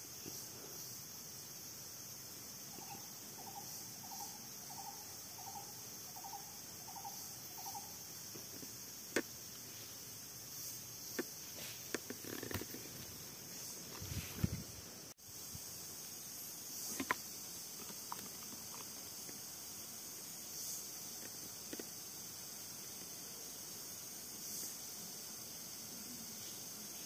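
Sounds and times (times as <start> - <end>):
high insect buzzing: 0.0 - 27.0.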